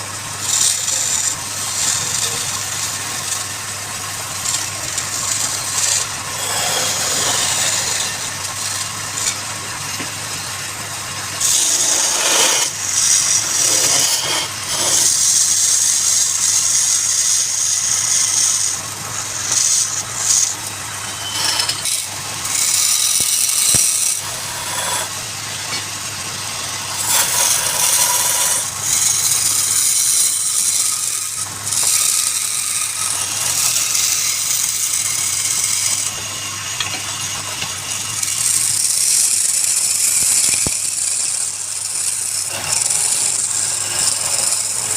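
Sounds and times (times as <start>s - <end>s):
turning tool scraping wood: 0.0s - 44.9s
wood lathe motor hum: 0.0s - 44.9s.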